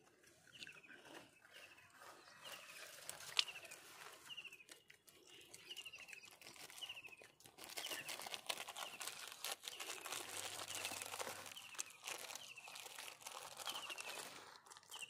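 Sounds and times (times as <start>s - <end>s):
crinkling and crunching rustles: 0.0s - 15.0s.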